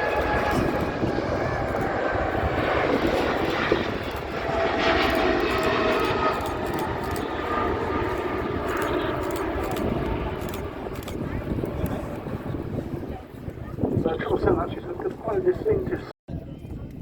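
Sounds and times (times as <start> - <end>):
jet airliner engines passing overhead: 0.0 - 17.0.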